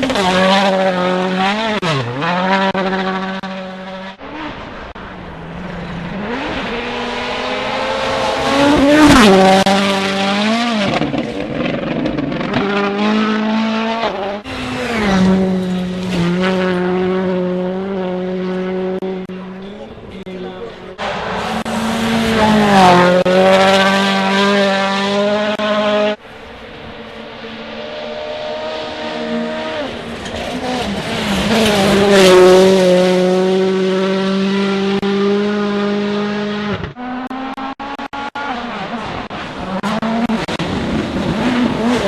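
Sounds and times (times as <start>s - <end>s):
rally car engine revving: 0.0s - 42.0s.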